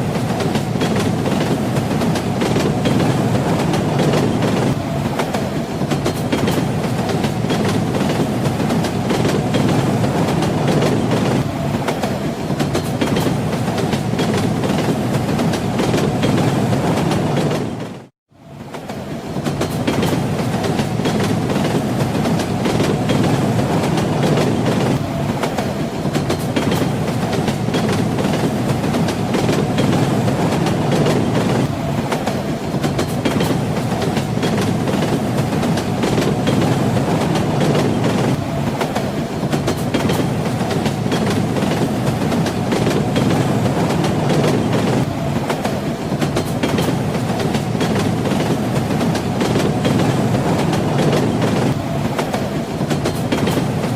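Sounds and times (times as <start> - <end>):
train wheels clattering: 0.0 - 18.1, 18.7 - 53.9
train rolling rumble: 0.0 - 53.9.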